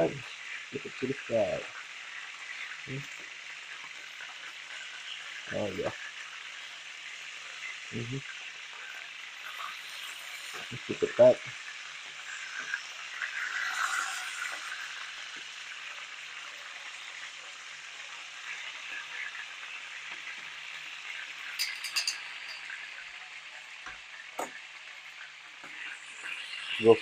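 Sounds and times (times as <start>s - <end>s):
chicken sizzling in a pan: 0.0s - 27.0s.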